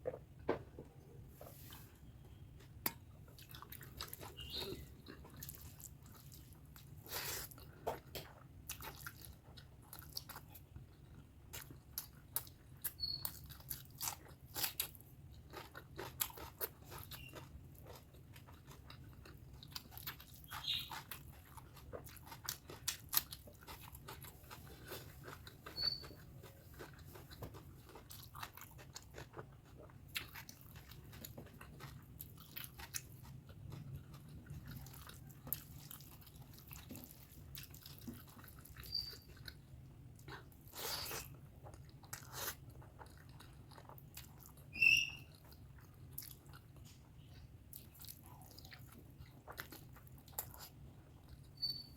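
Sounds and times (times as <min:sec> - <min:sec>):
chewing with wet mouth smacks: 0:02.3 - 0:51.9.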